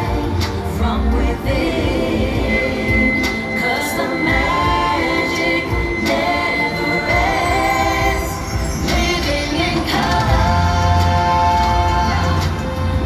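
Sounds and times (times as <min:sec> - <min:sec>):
choir singing a slow ballad: 0:00.0 - 0:13.0.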